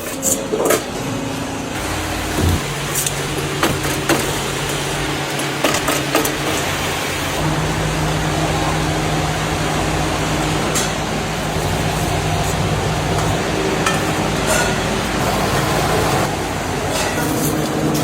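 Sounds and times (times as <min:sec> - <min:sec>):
metalworking machinery humming: 0:00.0 - 0:18.0.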